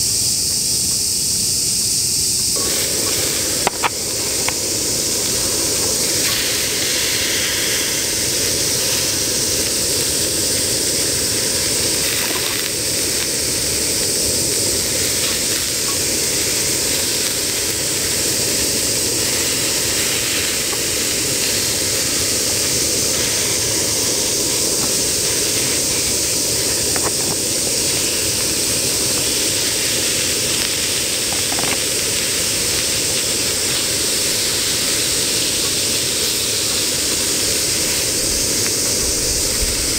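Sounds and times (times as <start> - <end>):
meat and vegetables sizzling: 0.0 - 39.9.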